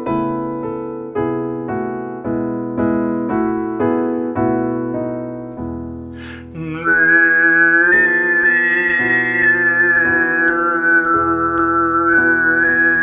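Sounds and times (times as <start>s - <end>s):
digital piano notes and chords: 0.0s - 13.0s.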